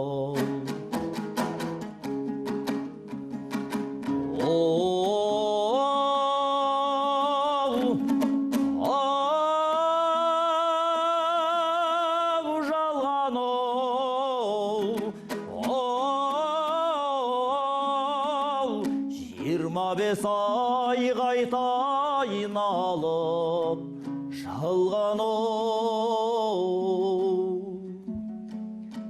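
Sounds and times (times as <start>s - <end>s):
person singing with vibrato: 0.0s - 28.2s
plucked strings: 0.0s - 29.0s.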